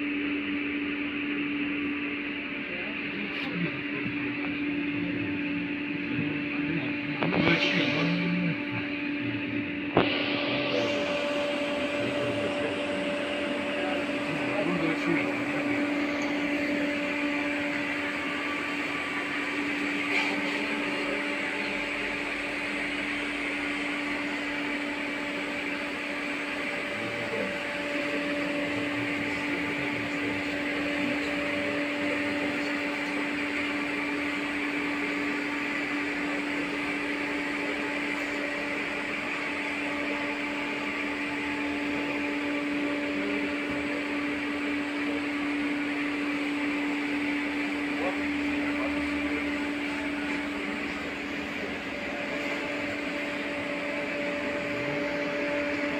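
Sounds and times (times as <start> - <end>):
electrical hum with whining tone: 0.0 - 55.9.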